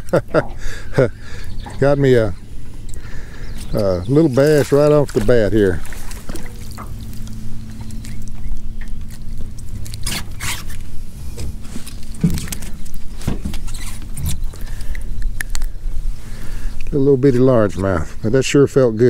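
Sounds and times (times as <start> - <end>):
low rumble and hum: 0.0 - 19.0.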